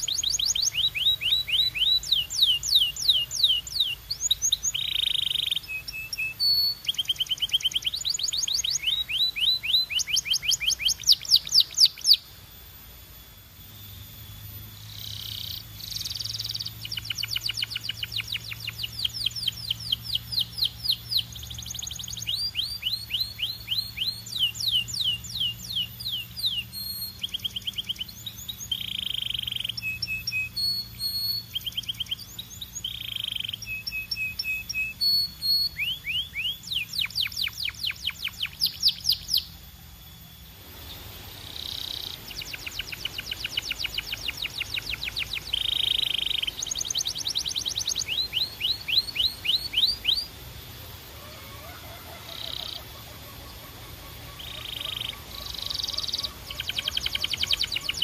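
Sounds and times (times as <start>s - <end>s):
canary singing trills: 0.0s - 12.4s, 13.2s - 58.0s.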